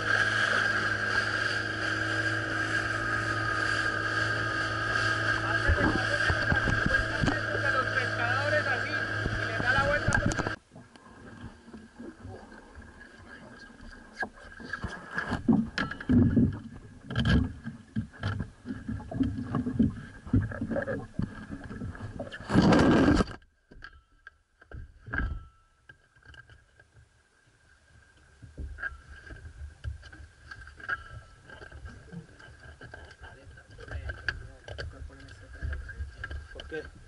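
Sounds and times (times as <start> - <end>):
boat motor hum: 0.0 - 37.0
water: 0.0 - 37.0.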